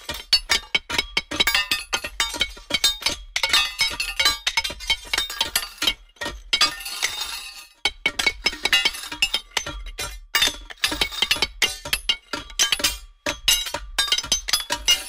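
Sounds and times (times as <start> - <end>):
hard objects clinking and breaking: 0.0 - 15.0.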